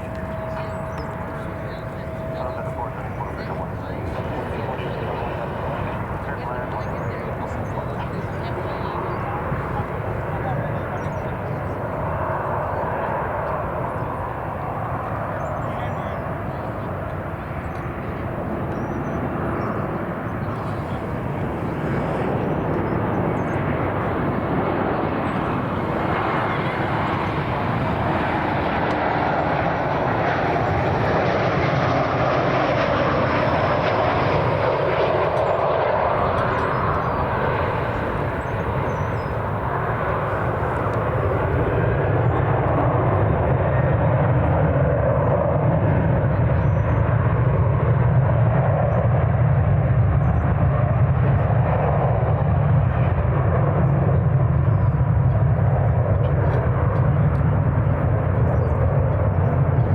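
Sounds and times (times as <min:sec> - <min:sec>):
jet airliner engine rushing: 0:00.0 - 0:59.9.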